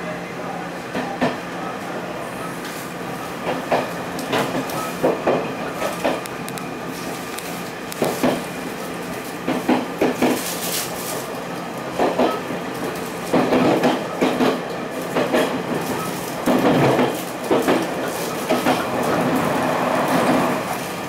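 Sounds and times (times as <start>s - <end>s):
train coach running hum: 0.0s - 21.0s.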